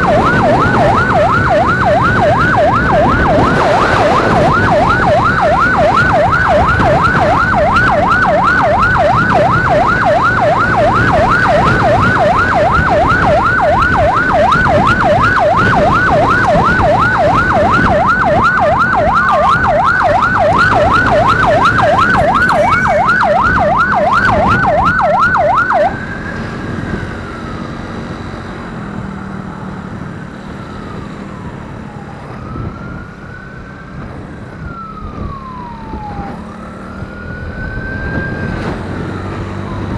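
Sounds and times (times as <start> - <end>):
emergency siren yelping: 0.0 - 39.9
road noise: 0.0 - 39.9
siren wail: 0.0 - 39.9.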